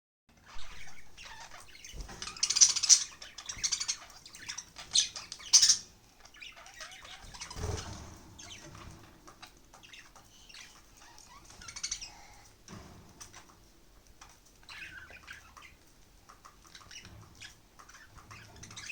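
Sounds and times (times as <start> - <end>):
budgerigars chirping and squawking: 0.4 - 13.6, 14.2 - 18.9.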